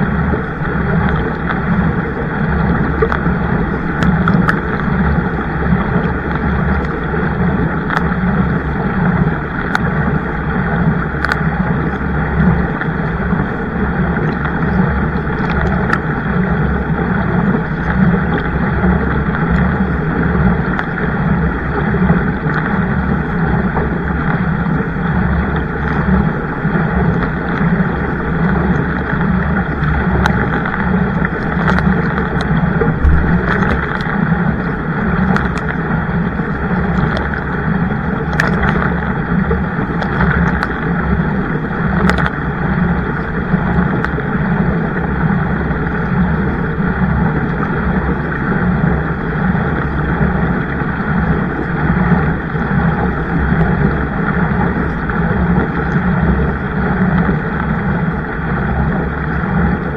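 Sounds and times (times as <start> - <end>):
water rushing around kayak: 0.0 - 59.9.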